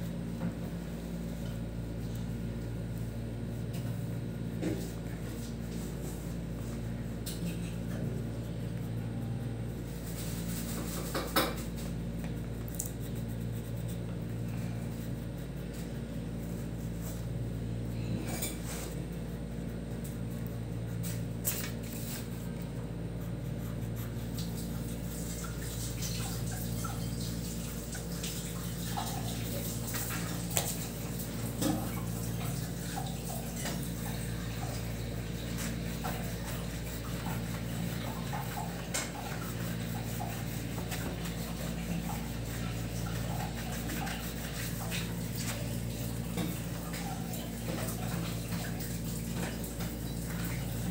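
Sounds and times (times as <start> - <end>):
appliance humming: 0.0 - 50.9.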